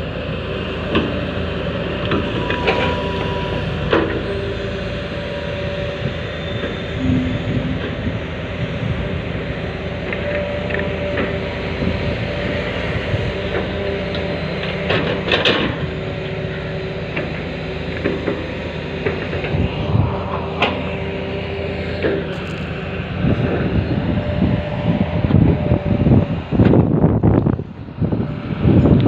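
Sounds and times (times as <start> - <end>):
excavator engine droning: 0.0 - 29.0.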